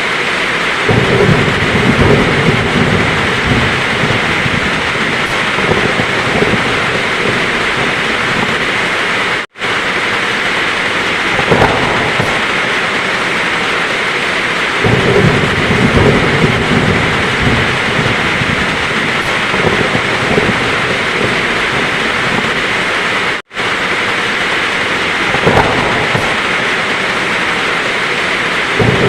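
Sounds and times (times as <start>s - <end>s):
heavy rain falling: 0.0s - 29.0s
thunder rumbling: 0.0s - 29.0s.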